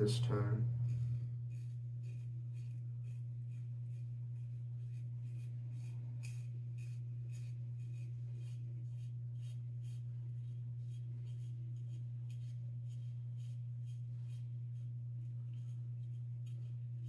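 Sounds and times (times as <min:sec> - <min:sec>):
low steady hum: 0:00.0 - 0:17.0
razor scraping stubble: 0:00.0 - 0:17.0.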